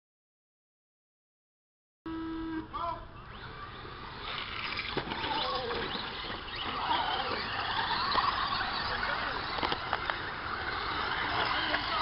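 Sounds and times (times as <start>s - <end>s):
toy truck motors whining: 2.1s - 12.0s.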